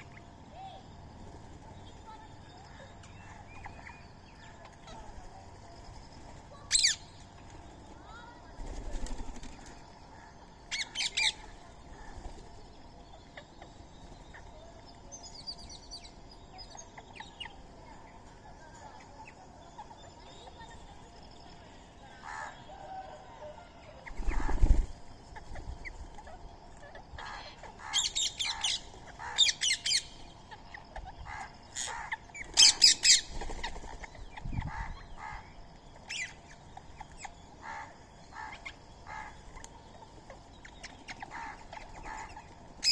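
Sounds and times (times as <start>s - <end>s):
birds calling: 0.0s - 42.9s.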